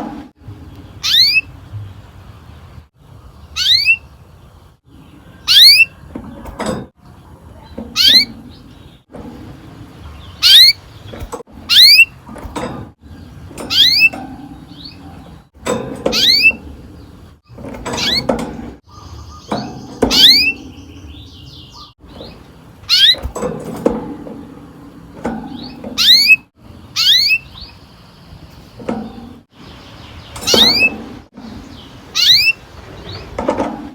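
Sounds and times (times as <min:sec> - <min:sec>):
canary singing: 0:00.6 - 0:01.7, 0:03.0 - 0:33.9.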